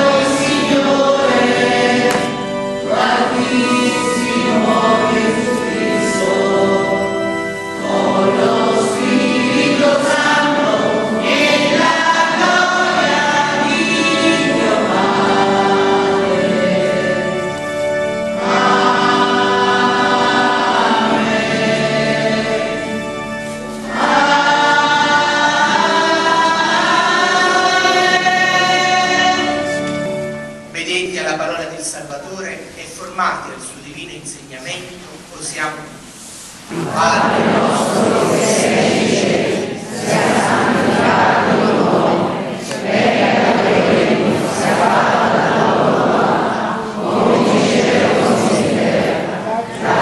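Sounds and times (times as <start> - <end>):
church choir singing: 0.0 - 50.0.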